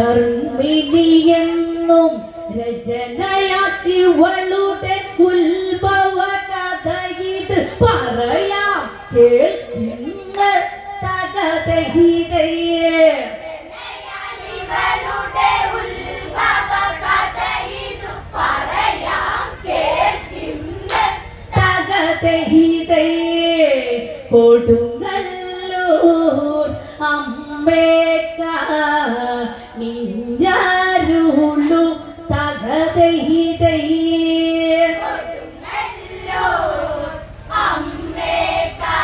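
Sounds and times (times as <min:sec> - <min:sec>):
women singing together: 0:00.0 - 0:39.0.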